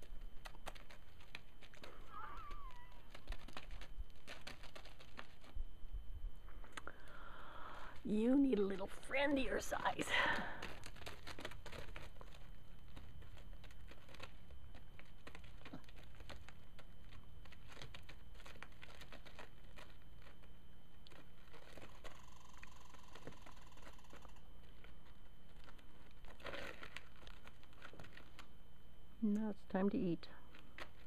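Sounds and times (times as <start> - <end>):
crackles and rustling: 0.0 - 31.0
faint steady tone: 0.0 - 31.0.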